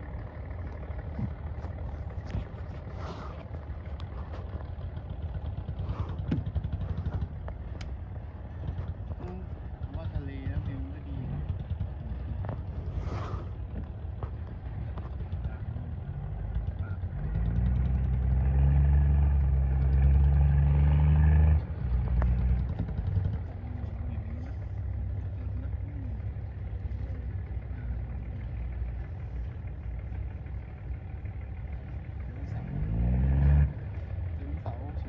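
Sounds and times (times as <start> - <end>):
engine running with low hum: 0.0 - 35.0
engine revving: 0.6 - 35.0.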